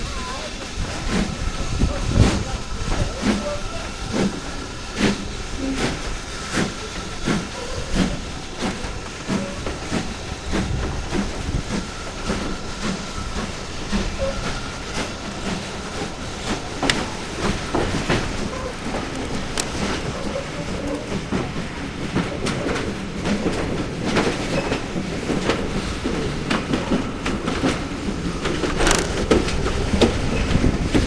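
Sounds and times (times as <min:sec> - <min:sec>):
steam hissing: 0:00.0 - 0:31.0
steam locomotive exhaust beats: 0:00.0 - 0:31.0.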